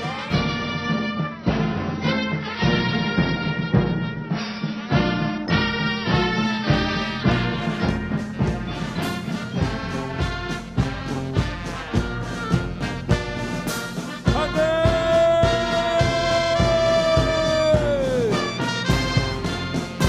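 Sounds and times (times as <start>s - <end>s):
brass band playing a march: 0.0s - 20.0s
drum beats: 0.0s - 20.0s.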